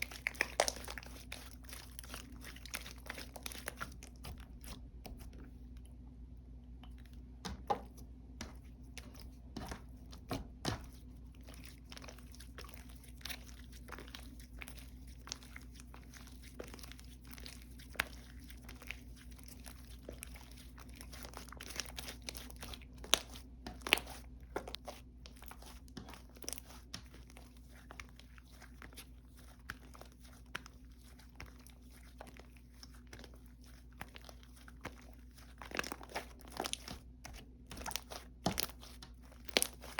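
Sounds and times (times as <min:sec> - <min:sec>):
slime squished by hand: 0:00.0 - 0:05.6, 0:06.7 - 0:39.9.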